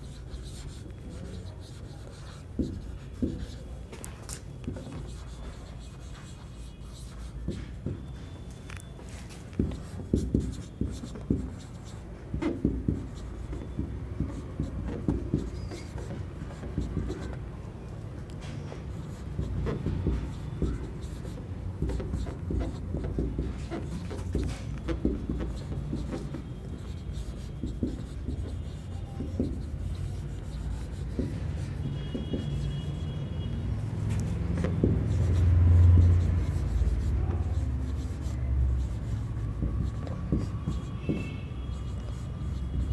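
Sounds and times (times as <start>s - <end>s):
marker writing on whiteboard: 0.0s - 42.9s.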